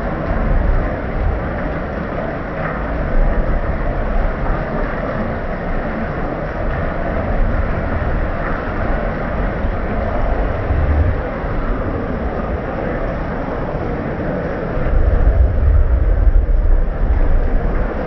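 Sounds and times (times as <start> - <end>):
steady rain: 0.0 - 18.0
wind rumble on microphone: 0.0 - 18.0.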